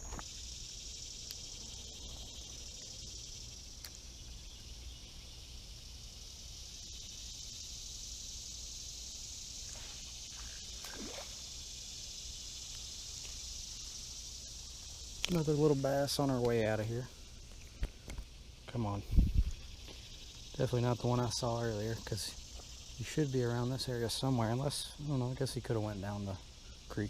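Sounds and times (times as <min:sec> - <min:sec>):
insect chorus drone: 0:00.0 - 0:27.0.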